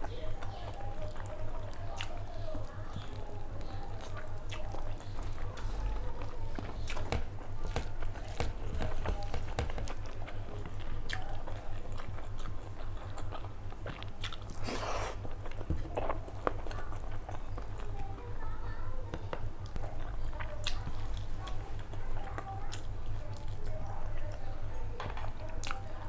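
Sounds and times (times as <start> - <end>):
close chewing with mouth smacks: 0.0 - 26.0
steady low hum: 0.0 - 26.0.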